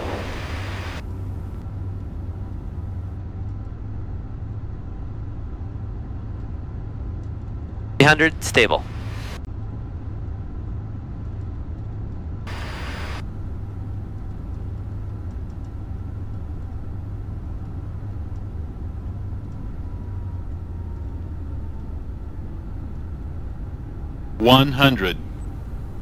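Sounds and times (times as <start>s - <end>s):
jet engine and airflow rumble: 0.0s - 26.0s.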